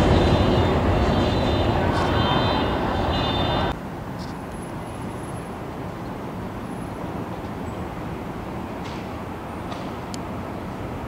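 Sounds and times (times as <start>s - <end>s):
distant traffic: 0.0s - 11.0s
rail noise: 0.0s - 11.0s.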